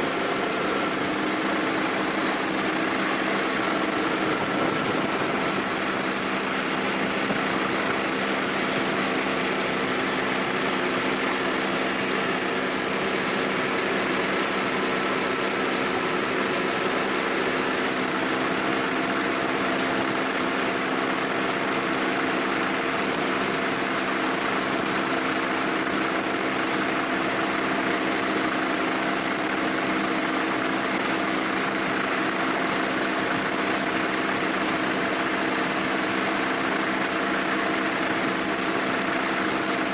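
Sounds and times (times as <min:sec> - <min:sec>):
machinery drone: 0:00.0 - 0:39.9.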